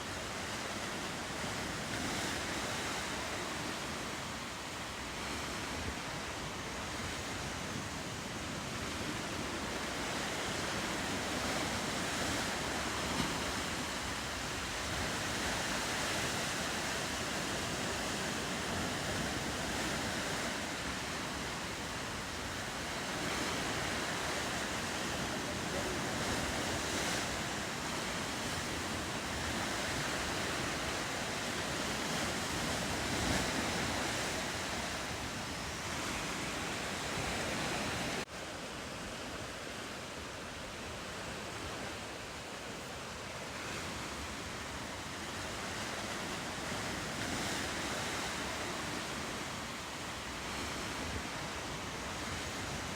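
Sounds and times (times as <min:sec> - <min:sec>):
ocean surf: 0:00.0 - 0:52.9
wind: 0:00.0 - 0:52.9.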